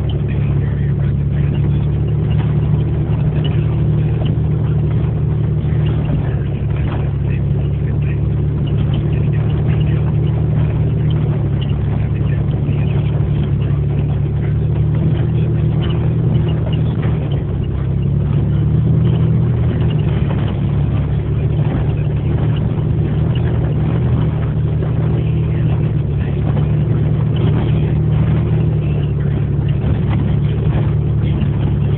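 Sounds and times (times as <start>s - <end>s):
vehicle engine running steadily: 0.0s - 31.9s.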